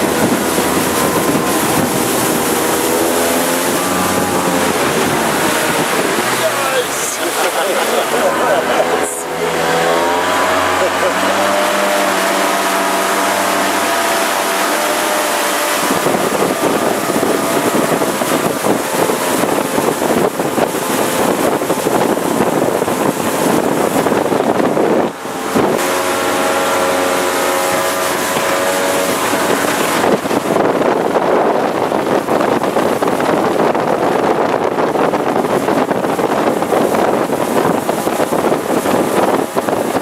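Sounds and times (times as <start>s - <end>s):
boat engine humming: 0.0s - 40.0s
wind rush on microphone: 0.0s - 40.0s.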